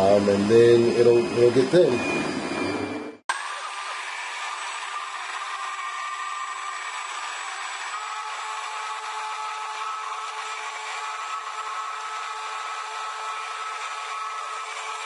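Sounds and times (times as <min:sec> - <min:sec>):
stick blender whine: 0:00.0 - 0:15.0.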